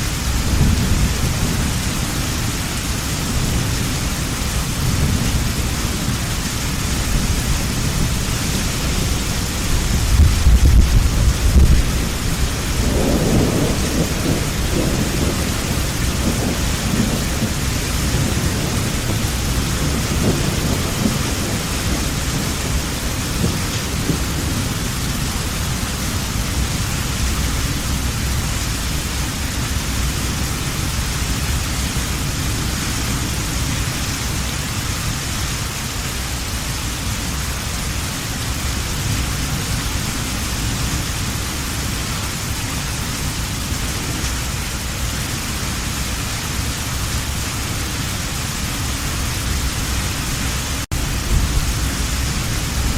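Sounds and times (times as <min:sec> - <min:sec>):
thunder rumble: 0:00.0 - 0:34.6, 0:39.0 - 0:52.9
heavy rain falling: 0:00.0 - 0:52.9.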